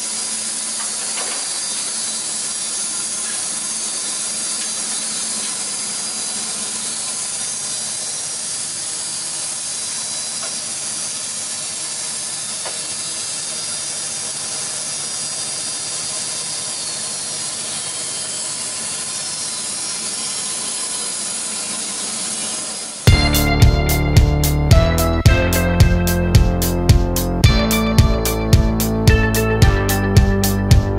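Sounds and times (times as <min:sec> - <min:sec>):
band sawmill running: 0:00.0 - 0:30.9.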